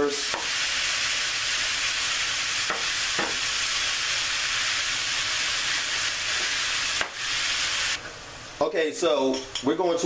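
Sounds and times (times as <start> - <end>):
meat sizzling in a skillet: 0.0 - 8.6.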